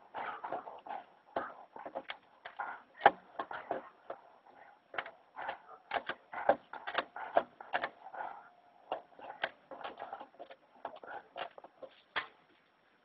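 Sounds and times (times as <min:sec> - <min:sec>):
dog gnawing wooden board: 0:00.0 - 0:12.2.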